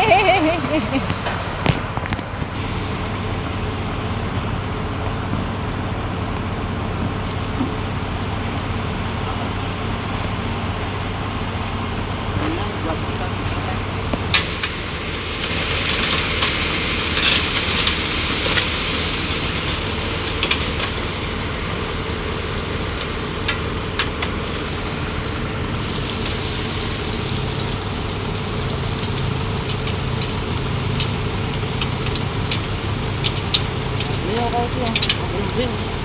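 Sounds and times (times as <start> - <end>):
generator engine running: 0.0 - 36.0.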